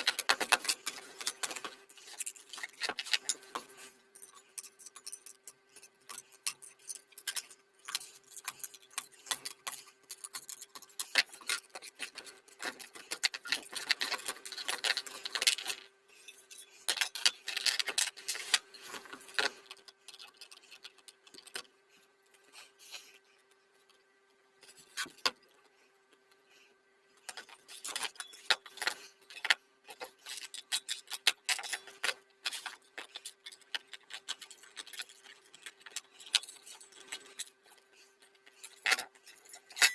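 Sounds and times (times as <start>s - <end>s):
metal parts clicking and scraping: 0.0s - 23.2s, 24.6s - 26.4s, 27.2s - 39.9s
faint steady hum: 0.0s - 39.9s.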